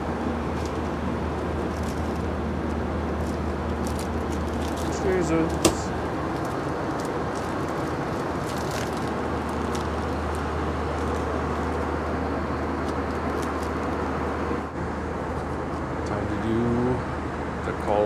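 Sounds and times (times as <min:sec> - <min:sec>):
airplane cabin air rush: 0:00.0 - 0:18.0.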